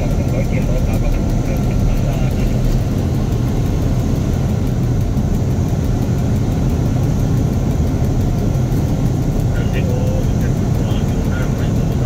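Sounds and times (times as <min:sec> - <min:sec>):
diesel locomotive engine rumble: 0:00.0 - 0:12.0.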